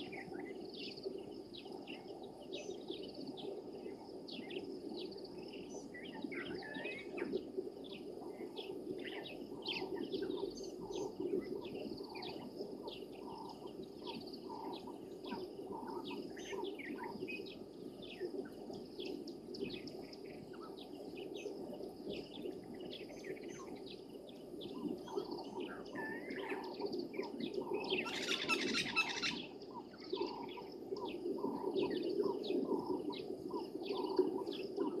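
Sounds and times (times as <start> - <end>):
wild birds chirping and calling: 0.0 - 35.0.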